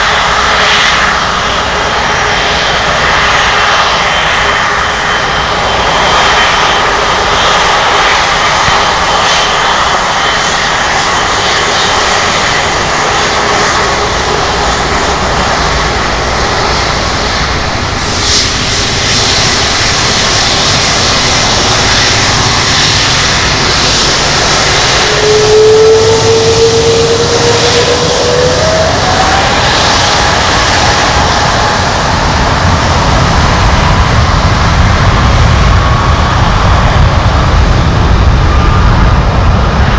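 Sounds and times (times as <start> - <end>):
jet engines running: 0.0 - 39.9
rising engine whine: 0.0 - 39.9.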